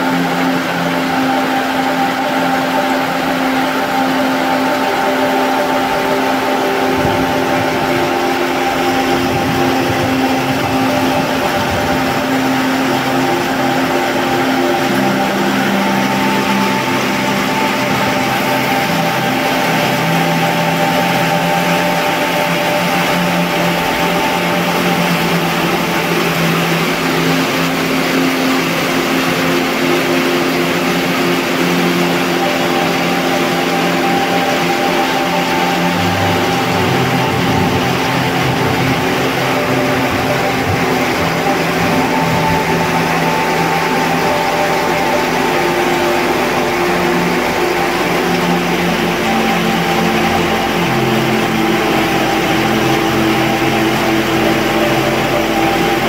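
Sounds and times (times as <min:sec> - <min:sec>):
heavy rain on metal roofs: 0:00.0 - 0:56.0
steady hum of held tones: 0:00.0 - 0:56.0.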